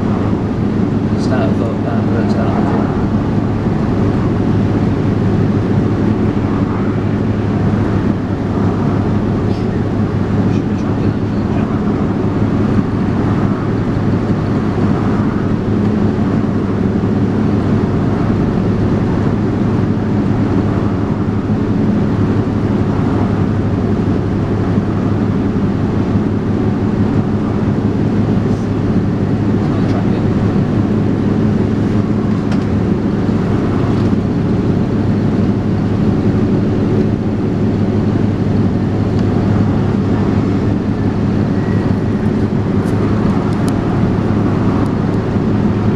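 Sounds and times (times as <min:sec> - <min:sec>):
bus engine droning: 0:00.0 - 0:45.9.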